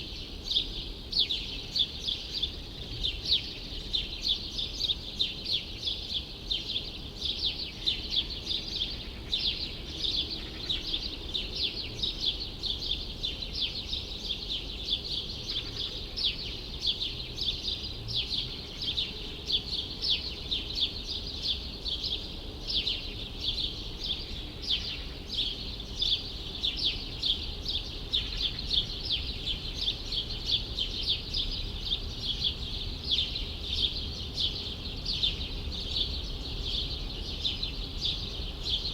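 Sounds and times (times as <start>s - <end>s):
low city rumble: 0.0s - 38.9s
small birds chirping: 0.0s - 38.9s.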